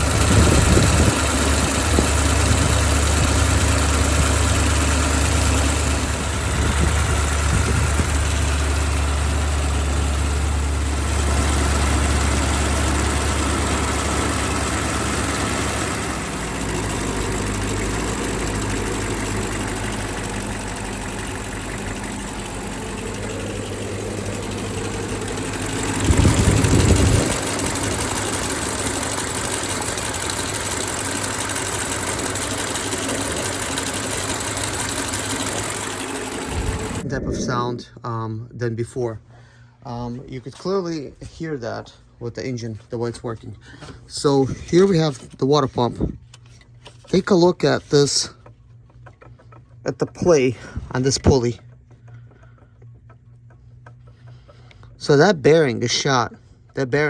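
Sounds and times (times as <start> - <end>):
car engine idling: 0.0 - 37.0, 46.2 - 57.0.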